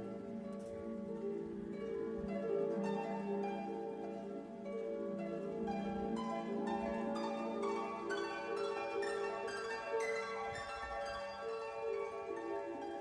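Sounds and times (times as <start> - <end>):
gentle background music: 0.0 - 13.0.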